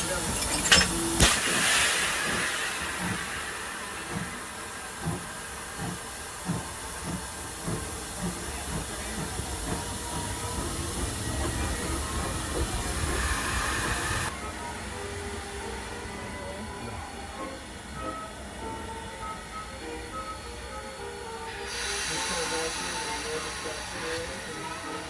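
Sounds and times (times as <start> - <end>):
steam hissing: 0.0 - 25.0
steam locomotive beat: 0.0 - 25.0.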